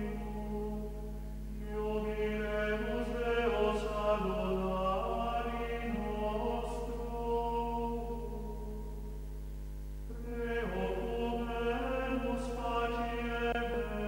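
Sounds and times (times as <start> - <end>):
voices chanting sustained notes: 0.0 - 9.3, 10.0 - 14.0.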